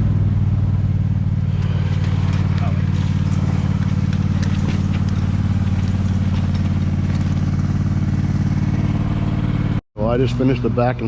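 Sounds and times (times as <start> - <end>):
lawn mower engine running: 0.0 - 9.8.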